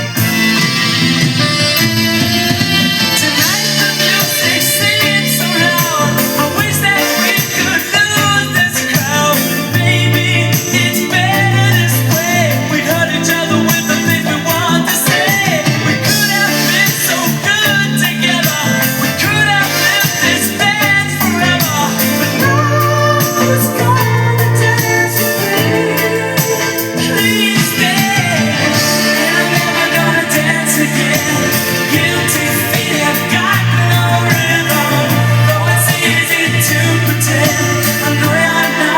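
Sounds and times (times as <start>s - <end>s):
pop song on hi-fi: 0.0s - 38.9s.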